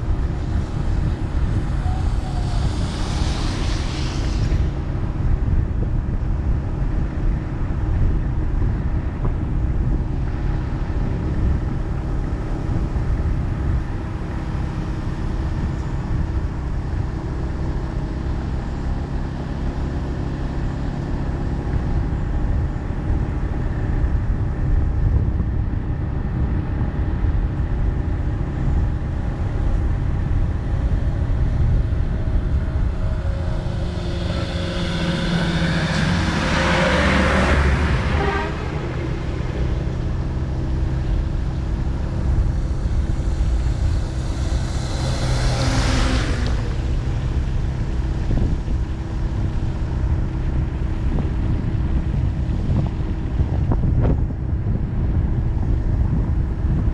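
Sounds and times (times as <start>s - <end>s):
vehicle engine and road rumble: 0.0s - 56.9s
vehicles passing close: 0.0s - 56.9s.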